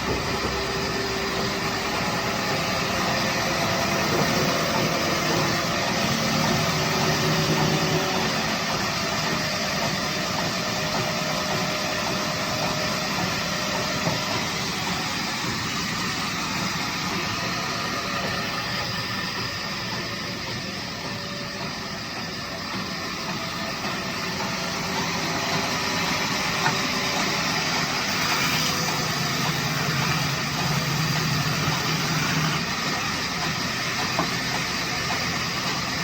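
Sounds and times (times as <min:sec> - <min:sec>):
woodworking machine running: 0:00.0 - 0:36.0.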